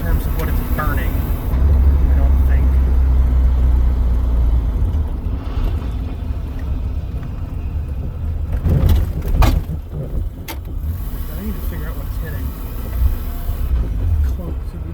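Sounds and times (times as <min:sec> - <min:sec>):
car engine rumbling: 0:00.0 - 0:14.9.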